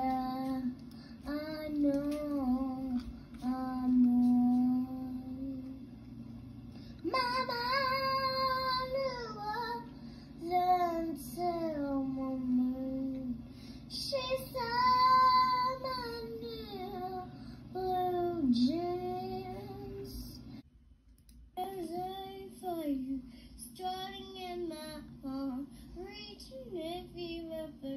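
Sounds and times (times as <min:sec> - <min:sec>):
girl singing: 0:00.0 - 0:05.9, 0:07.0 - 0:20.6, 0:21.6 - 0:27.9.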